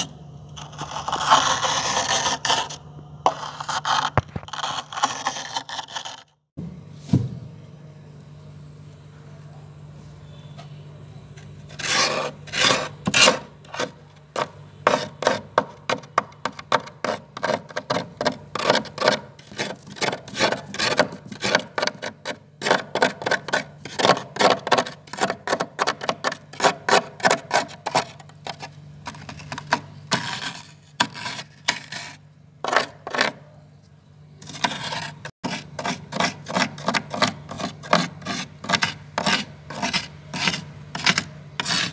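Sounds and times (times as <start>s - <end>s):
spoon scraping freezer frost: 0.0s - 6.3s, 11.3s - 41.9s
steady low hum: 0.0s - 41.9s.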